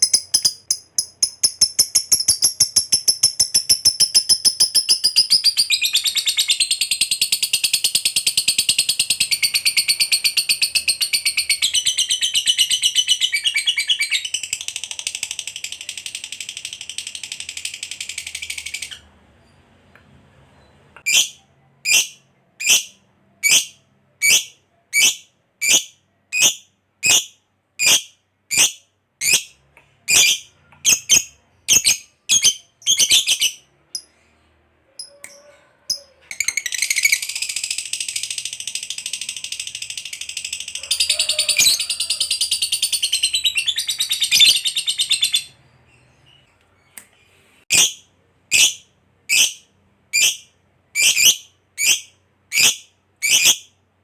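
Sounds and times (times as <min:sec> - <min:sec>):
lovebird chirping and trilling: 0:00.0 - 0:19.6, 0:20.6 - 0:34.2, 0:35.0 - 0:46.6, 0:47.7 - 0:53.8.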